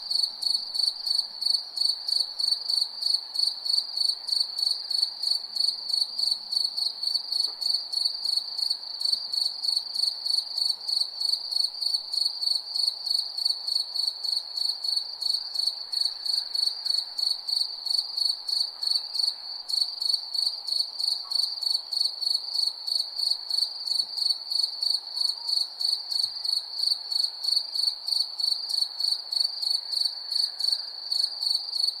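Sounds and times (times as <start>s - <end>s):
cricket chirping: 0.0s - 32.0s
faint background hiss: 0.0s - 32.0s.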